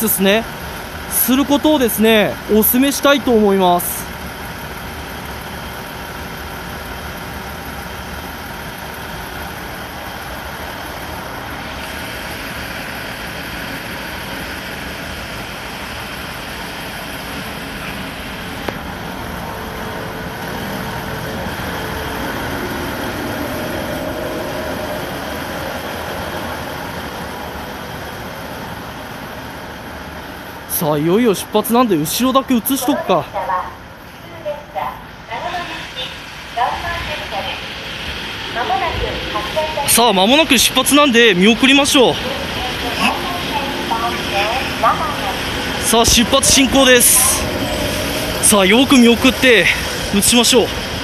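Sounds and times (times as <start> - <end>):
train equipment humming and hissing: 0.0 - 51.0.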